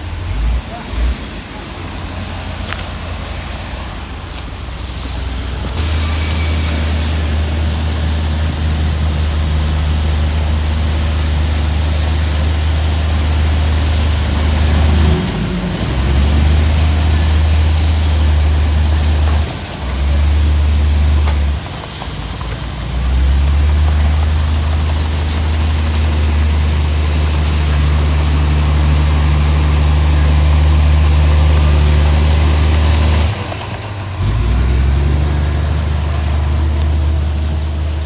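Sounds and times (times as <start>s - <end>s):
diesel engine rumbling: 0.0s - 38.0s.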